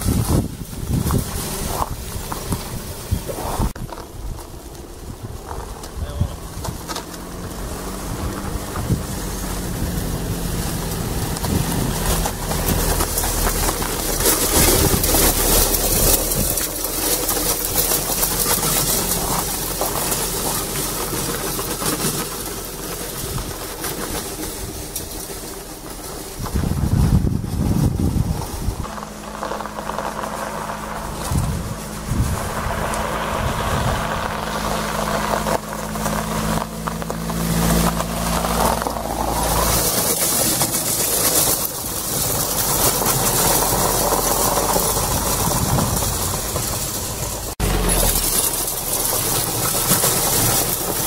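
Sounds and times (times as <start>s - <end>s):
heavy low rumble: 0.0s - 51.0s
car engine driving past: 1.3s - 23.7s, 26.4s - 51.0s.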